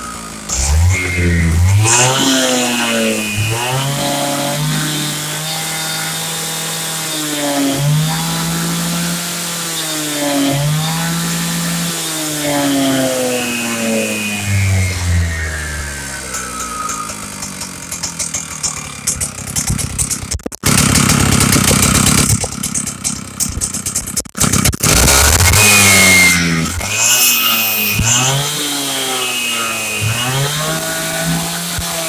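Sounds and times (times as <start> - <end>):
power cutter engine revving: 0.0 - 32.0.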